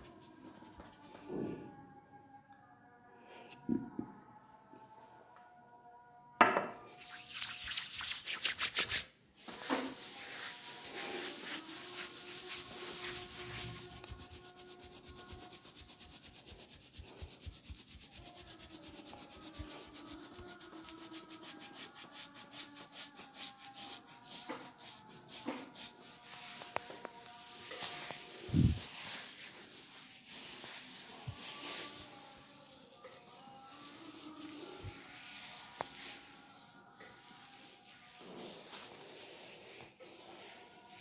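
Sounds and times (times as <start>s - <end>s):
fingers rubbing through oiled hair: 0.0s - 1.2s, 7.0s - 41.0s
oiled palms rubbed together: 0.0s - 1.3s, 7.0s - 41.0s.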